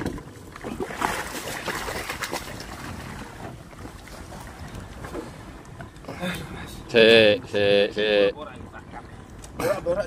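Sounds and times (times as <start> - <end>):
sea water washing around boat: 0.0 - 9.5.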